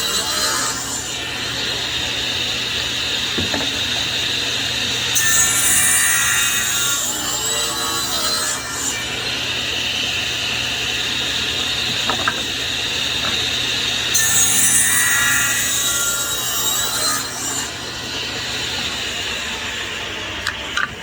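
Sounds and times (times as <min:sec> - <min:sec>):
table saw cutting wood: 0:00.0 - 0:21.0.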